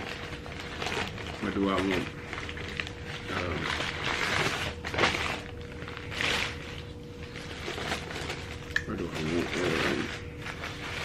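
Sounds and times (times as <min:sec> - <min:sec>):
faint steady hum: 0:00.0 - 0:11.0
paper packaging rustling: 0:00.0 - 0:11.0.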